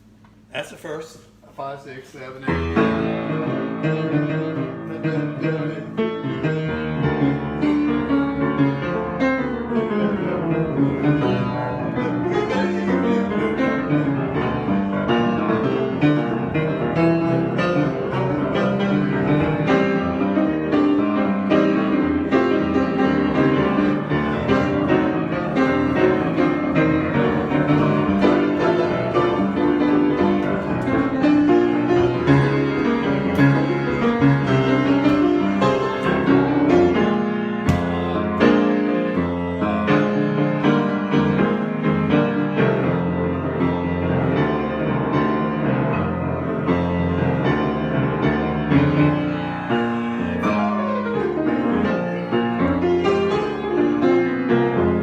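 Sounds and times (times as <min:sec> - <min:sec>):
solo piano playing: 0:02.5 - 0:55.0.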